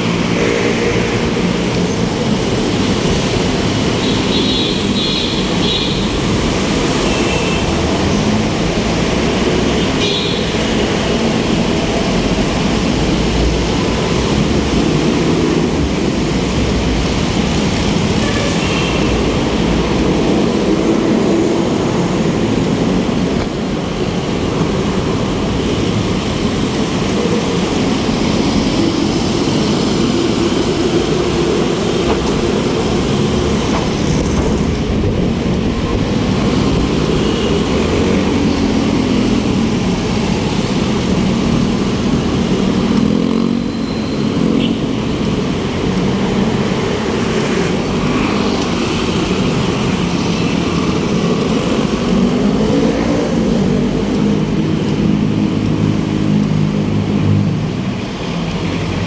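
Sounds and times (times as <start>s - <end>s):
traffic rumble: 0.0s - 59.0s
vehicle engines passing: 0.0s - 59.0s.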